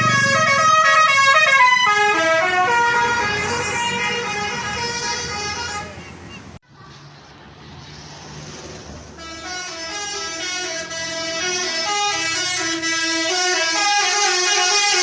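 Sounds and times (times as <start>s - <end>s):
bus horn playing a tune: 0.0s - 6.4s, 9.1s - 15.0s.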